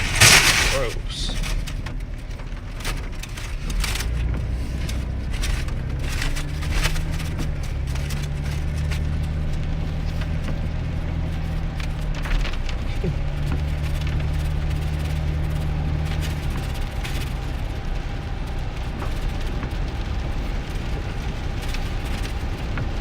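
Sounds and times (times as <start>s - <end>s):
engine and road noise: 0.0s - 23.0s
rain on vehicle: 0.0s - 23.0s.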